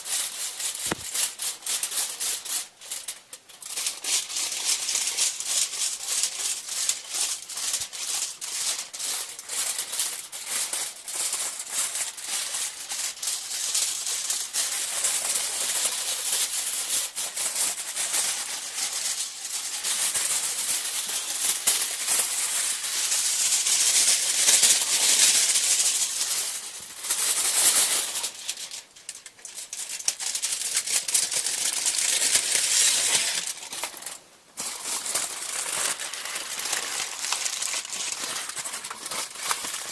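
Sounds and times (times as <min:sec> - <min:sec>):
crinkly sheet crumpled and rustled: 0:00.0 - 0:39.9.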